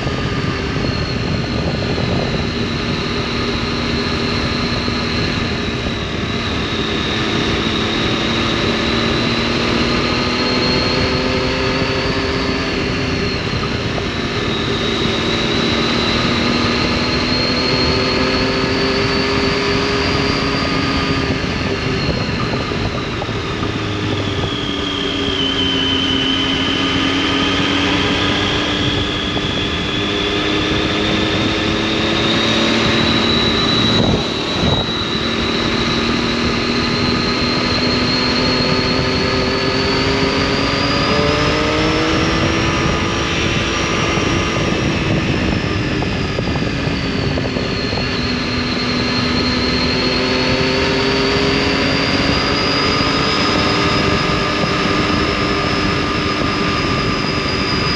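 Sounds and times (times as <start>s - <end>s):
motorcycle engine and exhaust: 0.0s - 57.9s.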